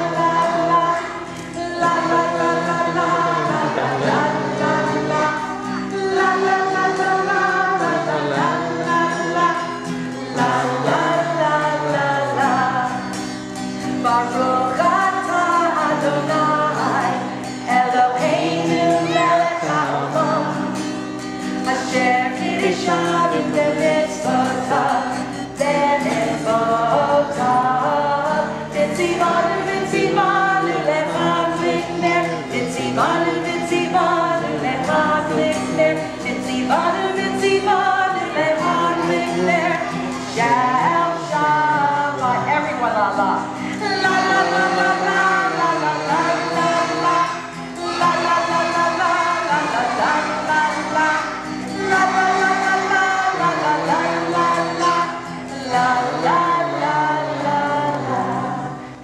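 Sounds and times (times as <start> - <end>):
women singing a blessing: 0.0 - 13.2, 14.0 - 20.8, 21.6 - 59.0
strummed acoustic guitar: 0.0 - 59.0.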